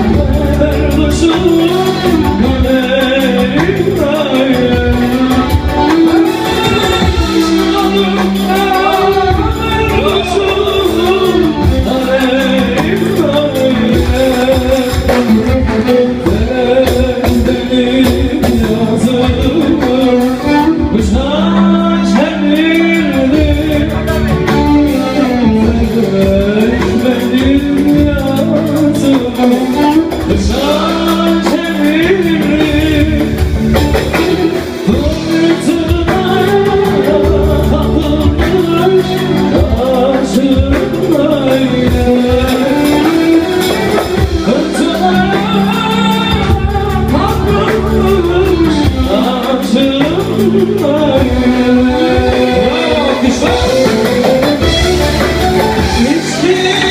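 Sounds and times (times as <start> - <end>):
instrumental accompaniment: 0.0 - 56.9
man singing ornamented melody: 0.0 - 56.9.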